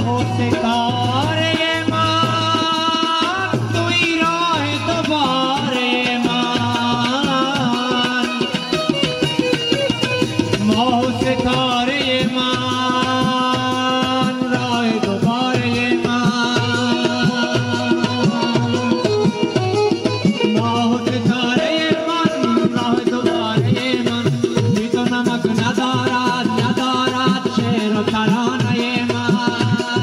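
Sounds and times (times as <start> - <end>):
hand drum beat: 0.0 - 30.0.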